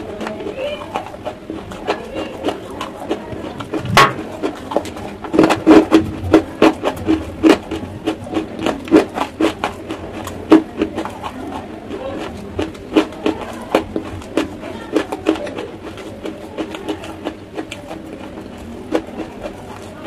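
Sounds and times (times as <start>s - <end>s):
chewing chalk crunches: 0.0s - 20.0s.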